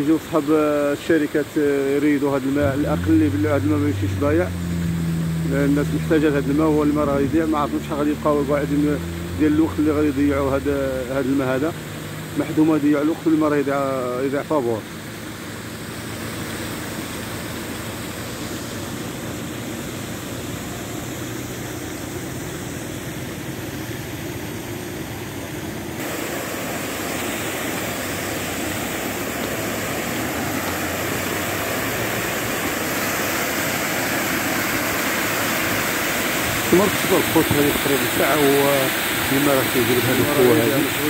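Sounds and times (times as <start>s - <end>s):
water jet rushing and crashing: 0.0s - 41.0s.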